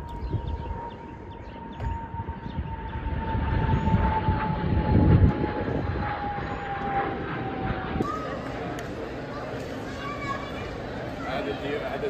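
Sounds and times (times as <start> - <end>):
jet aircraft rumble: 0.0 - 12.0
jet engine whine: 0.0 - 12.0.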